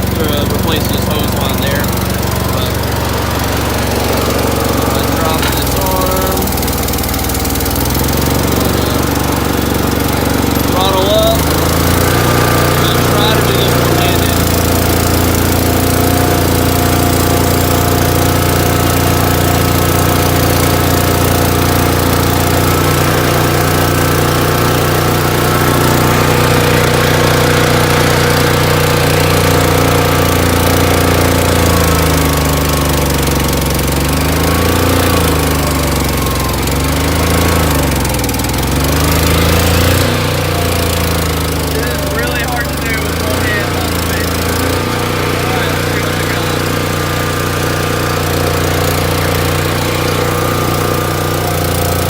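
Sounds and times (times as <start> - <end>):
mini skid steer engine running: 0.0 - 52.0.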